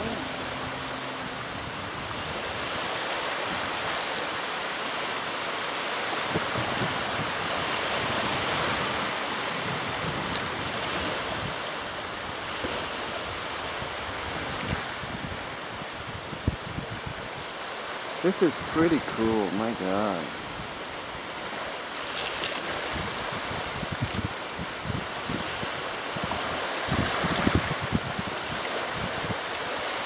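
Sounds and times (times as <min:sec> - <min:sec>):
wind gusting on microphone: 0:00.0 - 0:04.4, 0:06.0 - 0:17.7, 0:20.2 - 0:30.0
small waves washing onto shore: 0:00.0 - 0:30.0.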